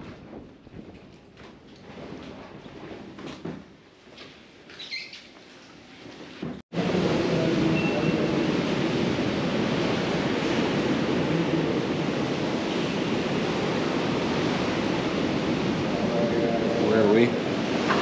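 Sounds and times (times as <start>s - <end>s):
hurricane wind against building: 0.0s - 4.7s, 6.4s - 18.0s.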